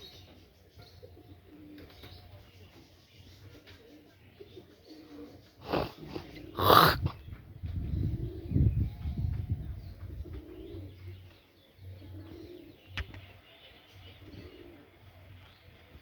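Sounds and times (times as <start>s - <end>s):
pigeons cooing: 0.0s - 15.8s.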